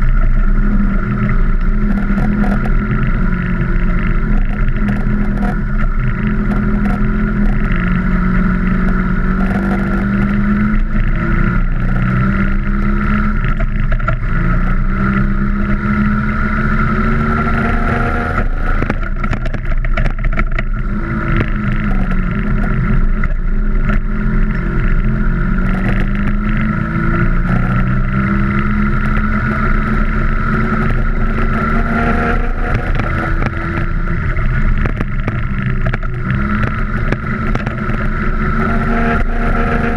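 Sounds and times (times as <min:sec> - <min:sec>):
scooter rattling over rough ground: 0:00.0 - 0:14.8, 0:17.1 - 0:39.9
scooter engine revving: 0:00.0 - 0:39.9.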